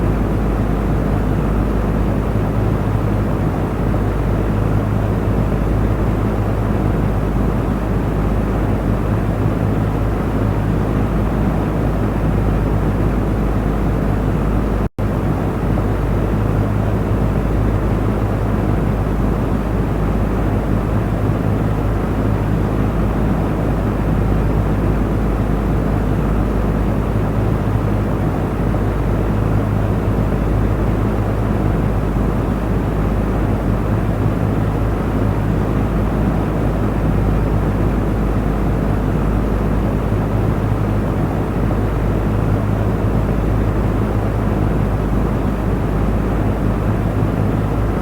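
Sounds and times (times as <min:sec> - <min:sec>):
electric fan running: 0:00.0 - 0:48.0.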